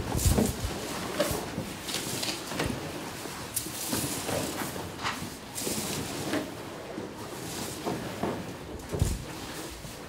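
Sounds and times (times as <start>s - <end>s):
broom sweeping dirt floor: 0.0s - 6.5s, 7.2s - 10.0s
broom scraping: 0.0s - 10.0s.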